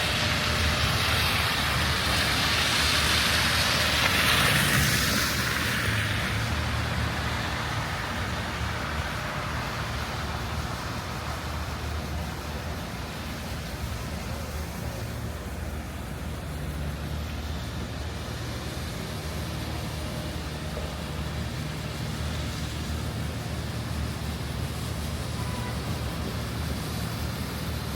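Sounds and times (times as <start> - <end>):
passing vehicle hiss: 0.0 - 27.9
road noise: 0.0 - 27.9
vehicle engines rumbling: 0.0 - 27.9.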